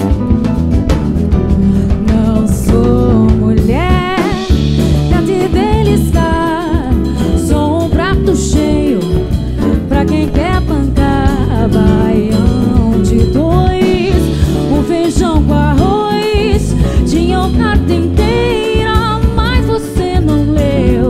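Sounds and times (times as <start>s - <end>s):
drum kit: 0.0s - 21.0s
electric guitar: 0.0s - 21.0s
woman singing: 1.5s - 21.0s.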